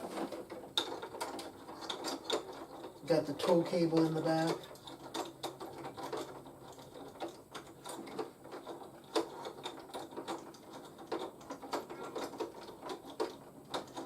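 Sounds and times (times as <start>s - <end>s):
plastic toy clicks and knocks: 0.0s - 14.0s.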